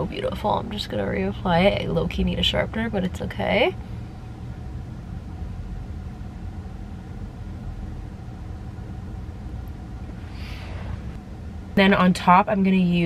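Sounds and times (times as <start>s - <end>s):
car cabin low rumble: 0.0s - 13.0s.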